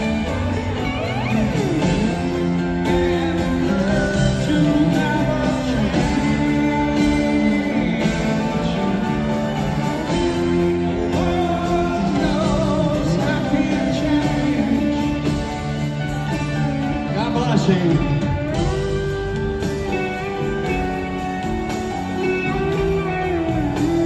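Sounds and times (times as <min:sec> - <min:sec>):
live rock band playing ballad: 0:00.0 - 0:24.0
slide guitar gliding: 0:00.0 - 0:24.0.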